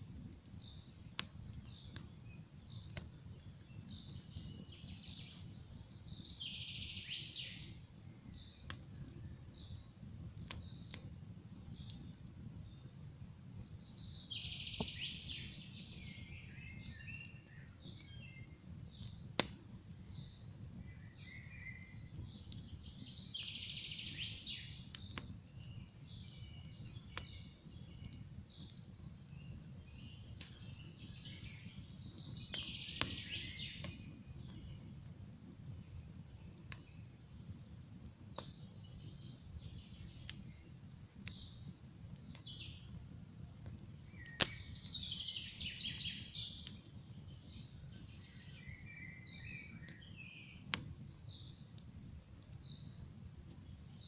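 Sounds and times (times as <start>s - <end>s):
campfire crackling and popping: 0.0s - 54.0s
songbirds chirping: 0.0s - 54.0s.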